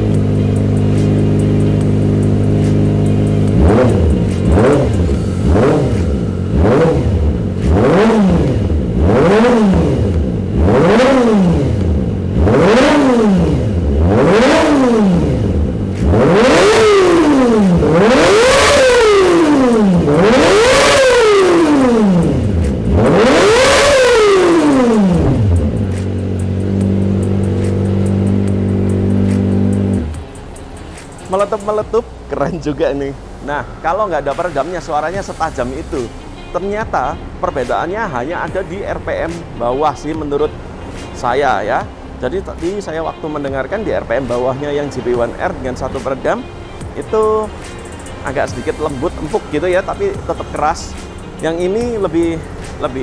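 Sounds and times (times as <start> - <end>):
motorcycle engine revving: 0.0 - 32.5, 34.2 - 53.0
exhaust popping: 0.0 - 53.0.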